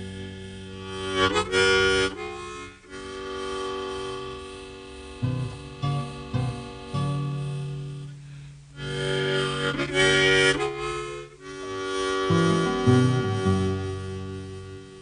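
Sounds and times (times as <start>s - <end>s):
plucked notes: 0.8s - 15.0s.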